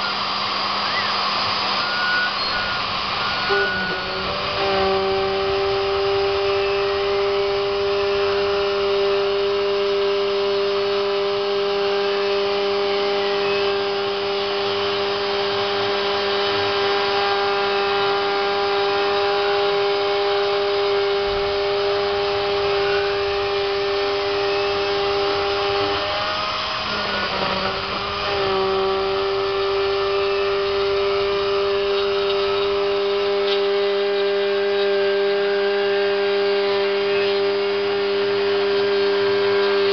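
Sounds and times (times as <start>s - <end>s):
cnc router motor whine: 0.0s - 39.9s.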